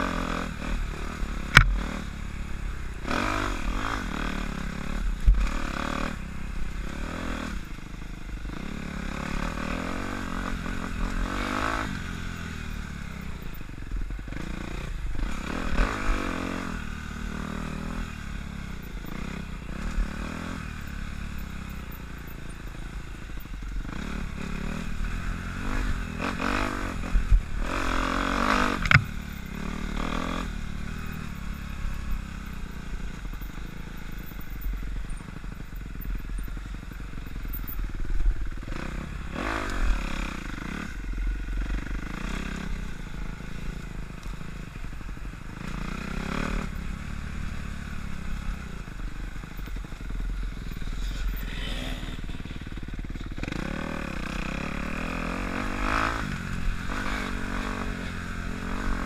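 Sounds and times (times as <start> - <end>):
dirt bike engine revving: 0.0 - 7.7, 8.4 - 59.0.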